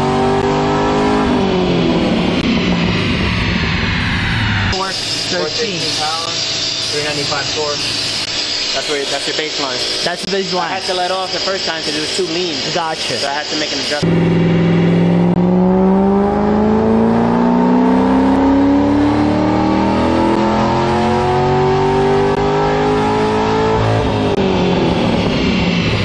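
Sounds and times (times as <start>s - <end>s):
car engine revving at full throttle: 0.0s - 26.0s.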